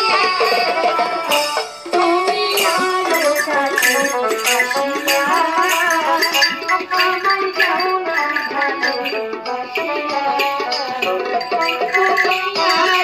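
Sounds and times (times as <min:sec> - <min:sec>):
repeating drum beat: 0:00.0 - 0:13.0.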